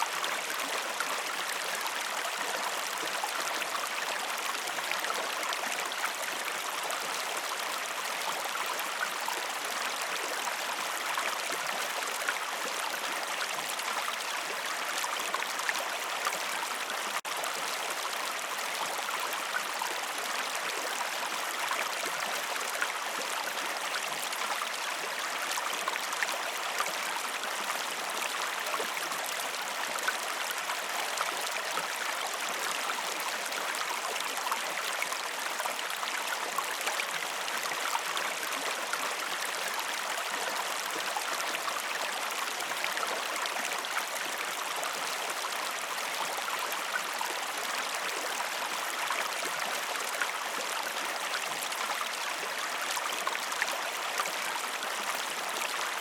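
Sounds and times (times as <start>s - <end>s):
stream rushing and babbling: 0.0s - 56.0s.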